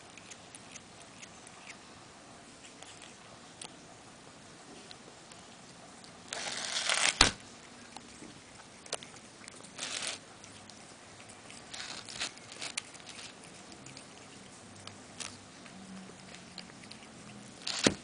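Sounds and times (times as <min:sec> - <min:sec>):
cat chewing grass crunchily: 0:00.0 - 0:18.0.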